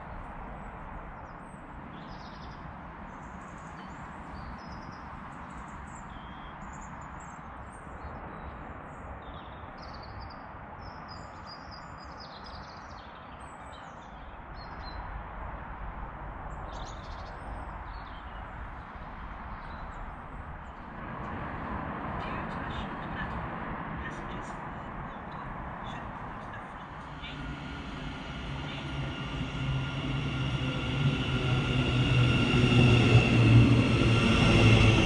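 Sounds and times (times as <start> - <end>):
songbirds chirping and twittering: 0.0 - 15.2, 16.4 - 21.4, 22.2 - 35.0.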